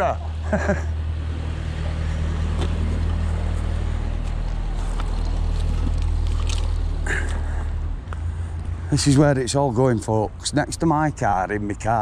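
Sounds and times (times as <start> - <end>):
low engine drone: 0.0 - 11.8.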